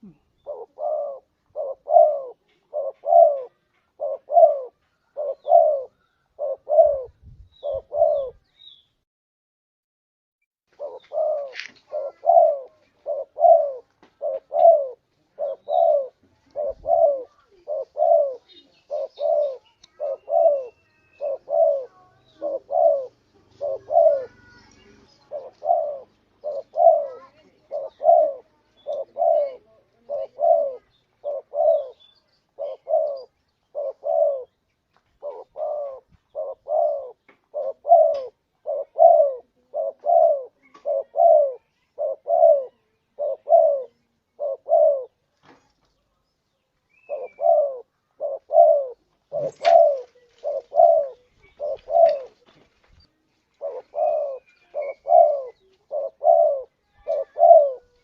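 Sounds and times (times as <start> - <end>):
dove cooing: 0.0 - 8.5, 10.7 - 34.6, 35.2 - 45.2, 46.9 - 52.6, 53.5 - 58.0
faint bird chirps: 10.8 - 58.0.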